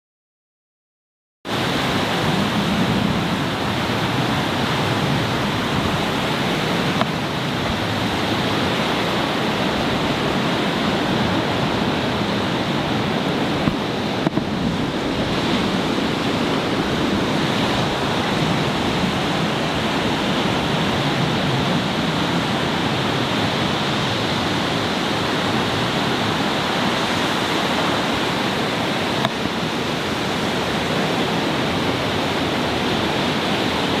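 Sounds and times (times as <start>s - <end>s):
heavy surf on rocks: 1.5s - 34.0s
strong wind: 1.5s - 34.0s.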